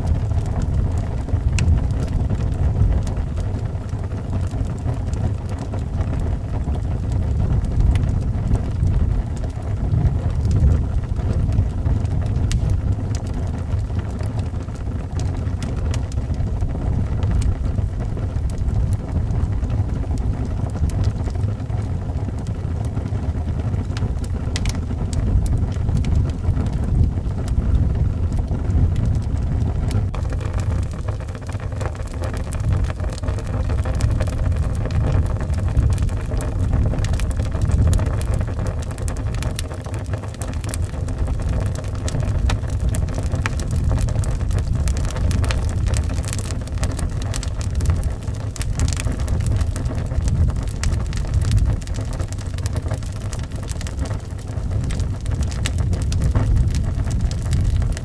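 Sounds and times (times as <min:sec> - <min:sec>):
howling wind: 0:00.0 - 0:58.0
wood fire crackling and popping: 0:00.0 - 0:58.0.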